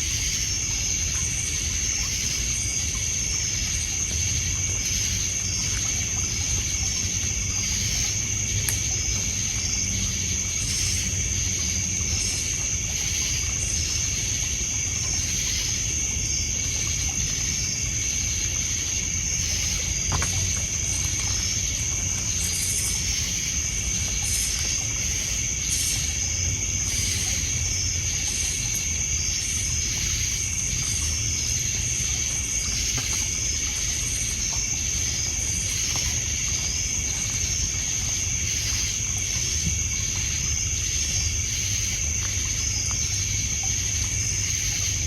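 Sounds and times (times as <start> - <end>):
crickets trilling: 0.0 - 45.0
insects chirping rhythmically: 0.0 - 45.0
water lapping on pebble shore: 0.2 - 45.0.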